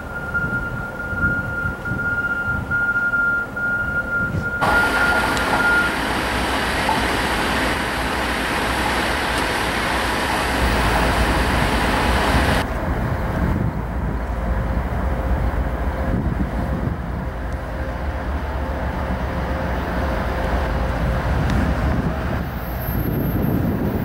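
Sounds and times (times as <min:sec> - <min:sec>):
locomotive high-pitched whine: 0:00.0 - 0:13.4, 0:14.0 - 0:24.0
diesel engine rumble: 0:00.0 - 0:24.0
steady rushing noise: 0:04.6 - 0:24.0.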